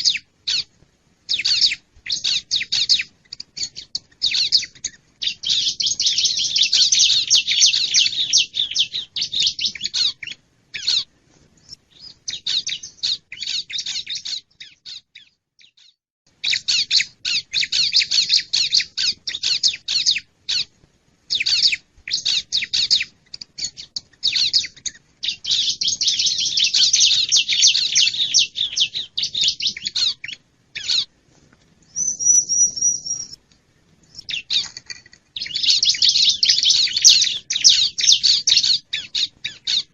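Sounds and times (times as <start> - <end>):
bird high chirps: 0.0 - 0.7, 1.3 - 20.7, 21.3 - 31.1, 31.8 - 33.4, 34.0 - 39.9.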